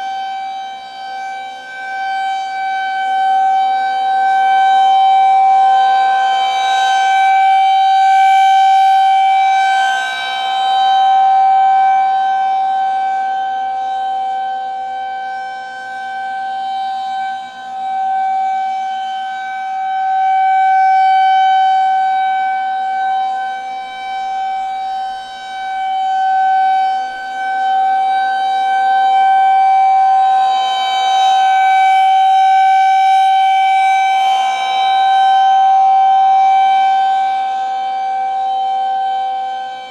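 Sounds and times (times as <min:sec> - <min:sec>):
warning siren steady wail: 0:00.0 - 0:39.9.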